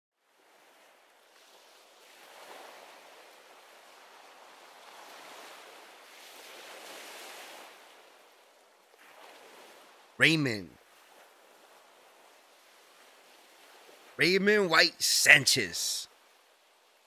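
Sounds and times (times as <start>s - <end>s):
faint ocean surf: 0.2s - 17.0s.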